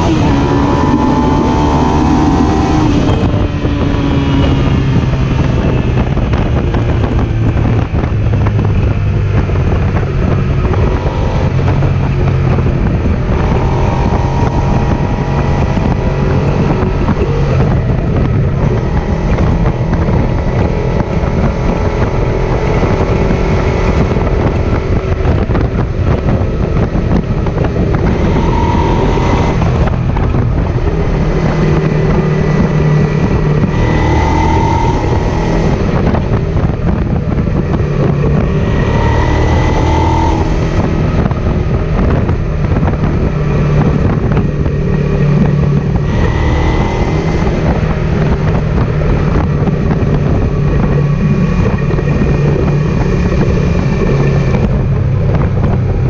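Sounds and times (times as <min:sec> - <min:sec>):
motorcycle engine running: 0:00.0 - 0:56.0
wind rush over microphone: 0:00.0 - 0:56.0.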